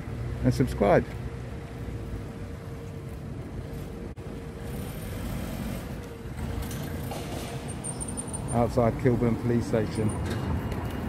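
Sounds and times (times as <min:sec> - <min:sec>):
faint street noise: 0:00.0 - 0:11.0.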